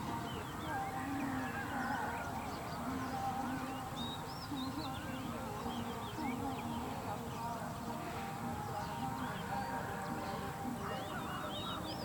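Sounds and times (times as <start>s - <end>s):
faint low voice-like sounds: 0.0s - 12.0s
low background noise: 0.0s - 12.0s
small birds chirping: 0.0s - 12.0s.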